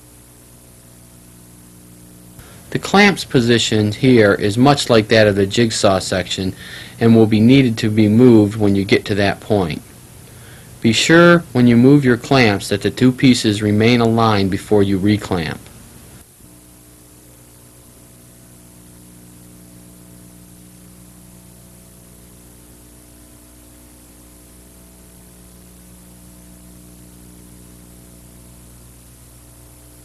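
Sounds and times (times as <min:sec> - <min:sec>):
electrical mains hum: 0:00.0 - 0:30.0
faint hiss: 0:00.0 - 0:30.0.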